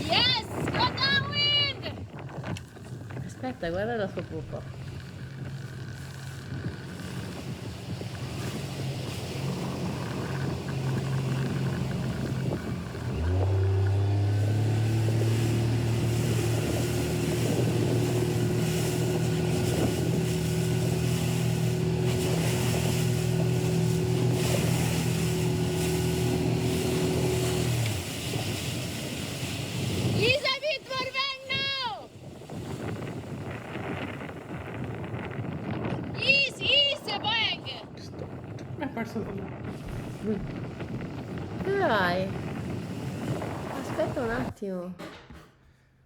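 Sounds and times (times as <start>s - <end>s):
motorboat engine running: 0.0s - 44.6s
water noise: 0.0s - 44.6s
wind: 0.0s - 46.0s.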